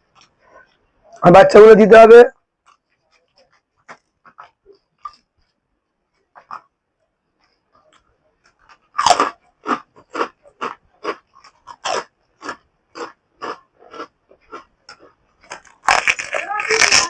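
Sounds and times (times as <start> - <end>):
person crunching and chewing food: 0.0 - 1.2, 2.6 - 6.8, 7.4 - 17.0.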